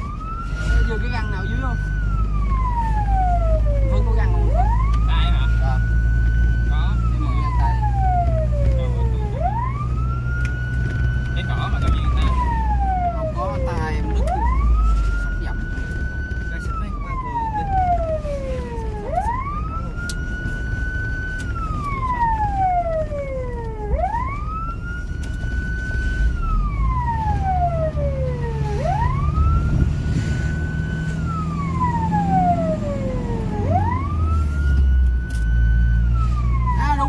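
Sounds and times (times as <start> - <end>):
fire engine siren wailing: 0.0 - 37.0
truck engine running: 0.0 - 37.0.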